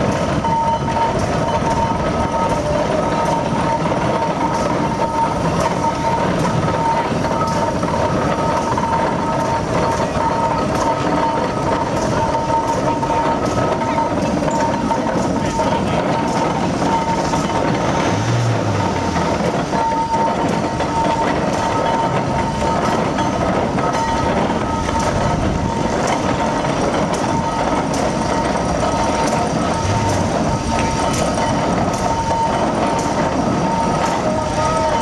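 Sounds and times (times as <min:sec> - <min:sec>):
steady high tone: 0:00.0 - 0:35.0
steam traction engine running: 0:00.0 - 0:35.0.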